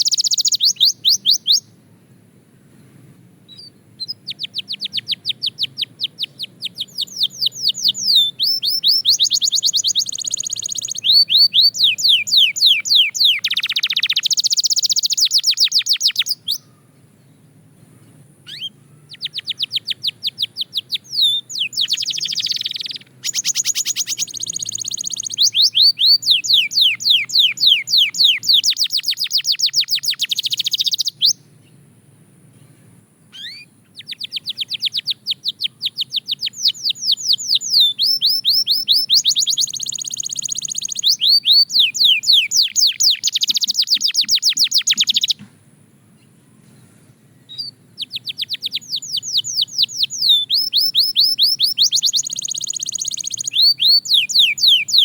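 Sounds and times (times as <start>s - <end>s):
canary singing trills: 0.0s - 1.8s, 3.5s - 31.8s, 32.6s - 45.5s, 47.4s - 55.0s.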